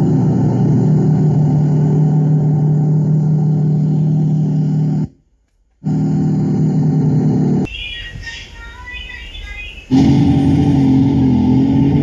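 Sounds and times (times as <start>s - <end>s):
heavy engine humming: 0.0s - 5.2s, 5.8s - 12.0s.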